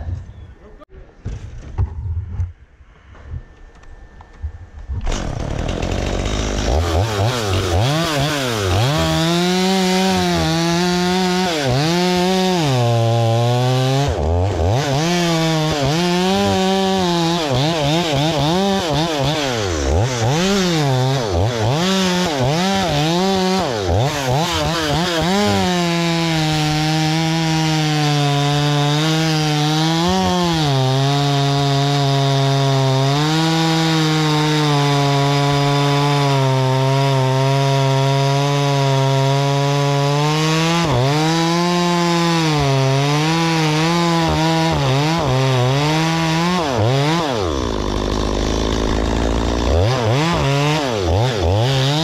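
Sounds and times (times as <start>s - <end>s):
chainsaw cutting wood: 5.0s - 52.0s.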